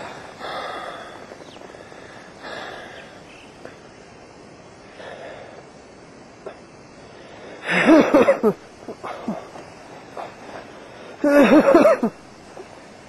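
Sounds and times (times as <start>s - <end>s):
faint breaths: 0.0s - 8.0s, 8.7s - 11.6s.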